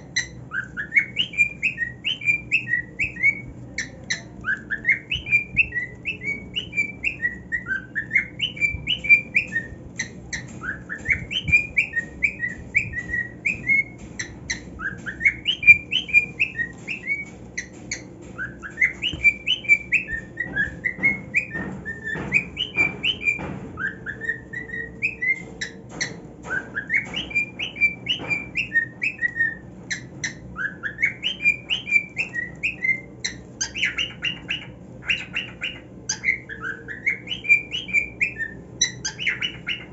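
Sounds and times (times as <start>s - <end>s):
cockatiel whistling song: 0.0s - 39.9s.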